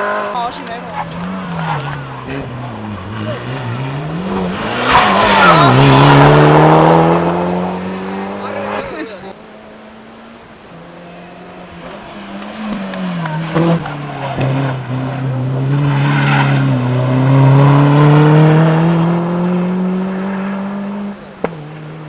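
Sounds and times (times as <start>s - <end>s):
rally car engine passing: 0.0s - 22.0s.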